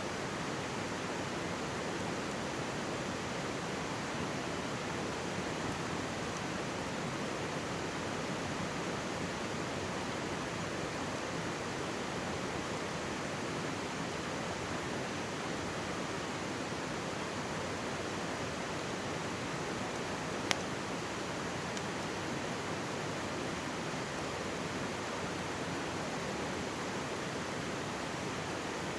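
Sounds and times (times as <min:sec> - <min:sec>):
stream rushing: 0:00.1 - 0:28.9.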